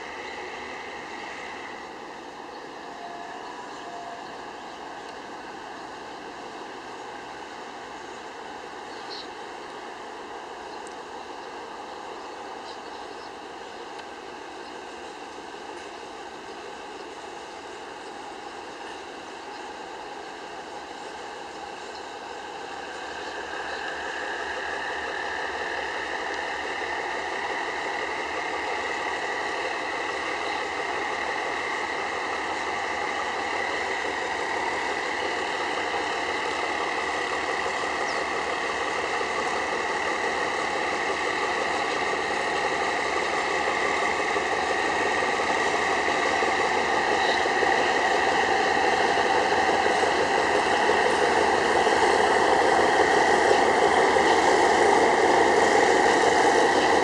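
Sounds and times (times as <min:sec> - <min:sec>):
diesel locomotive running: 0:00.0 - 0:57.0.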